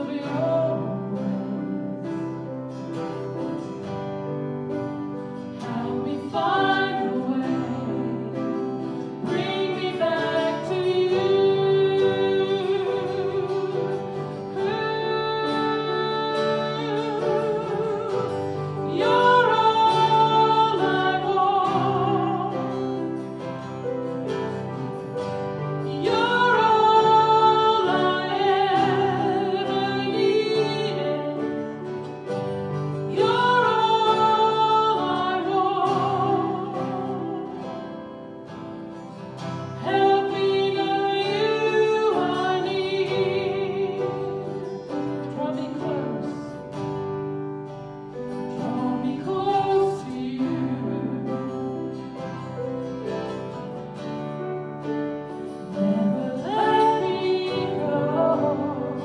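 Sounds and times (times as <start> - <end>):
guitar accompaniment: 0.0 - 59.0
person singing with vibrato: 0.0 - 59.0.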